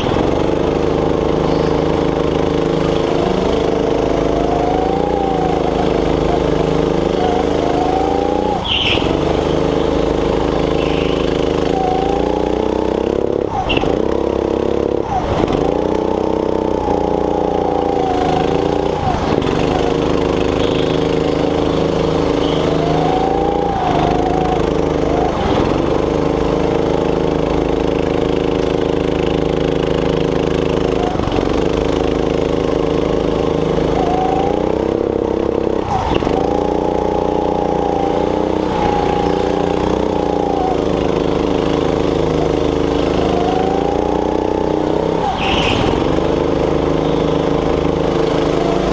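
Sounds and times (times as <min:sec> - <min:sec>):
go-kart engine revving: 0:00.0 - 0:48.9.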